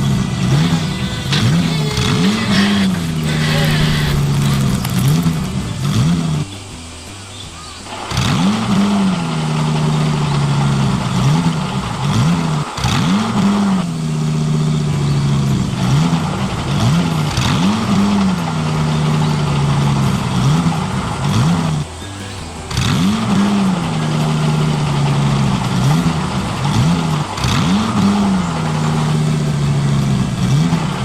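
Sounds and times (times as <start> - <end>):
model engine revving: 0.0 - 31.0.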